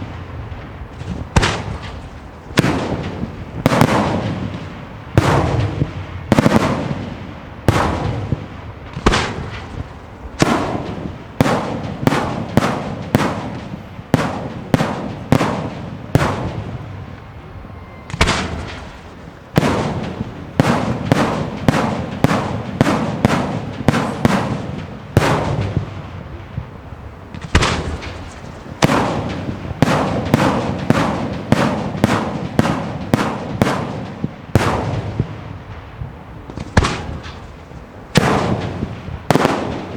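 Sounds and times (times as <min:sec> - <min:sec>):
fireworks bangs with rumbling echo: 0:00.0 - 0:39.9.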